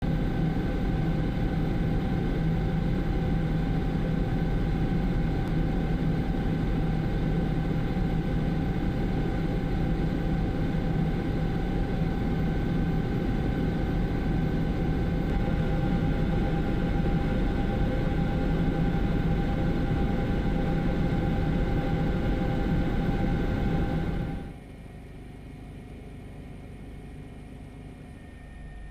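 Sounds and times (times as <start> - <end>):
helicopter engine and rotor drone: 0.0 - 28.9.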